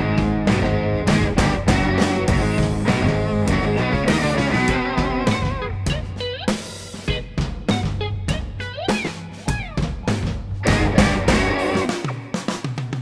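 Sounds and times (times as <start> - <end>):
electric guitar lines: 0.0 - 9.3, 10.6 - 12.4
bass: 0.0 - 12.0
rock drum beat: 0.0 - 13.0.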